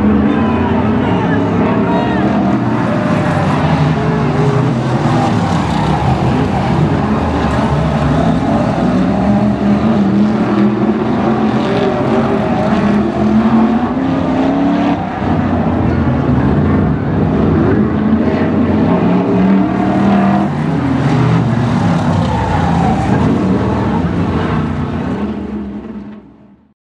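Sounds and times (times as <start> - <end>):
racing car engines passing: 0.0 - 26.5.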